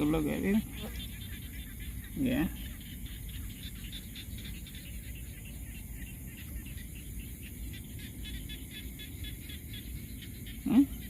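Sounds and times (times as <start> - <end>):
rapid animal chirping: 0.0 - 11.0.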